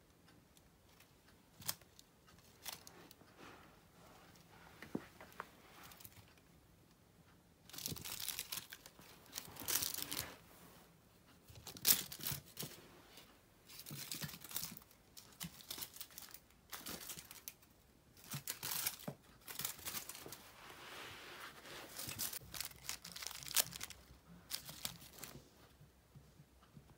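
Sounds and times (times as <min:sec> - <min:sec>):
crinkly cat toy rustling: 0:00.9 - 0:06.4, 0:07.6 - 0:25.7.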